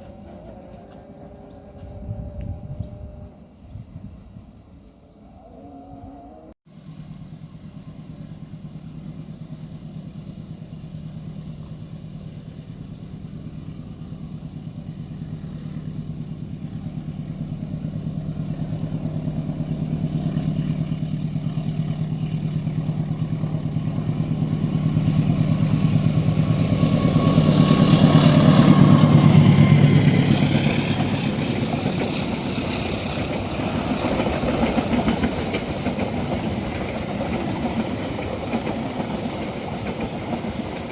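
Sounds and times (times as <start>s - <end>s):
diesel locomotive engine droning: 0.0s - 5.2s, 6.7s - 40.9s.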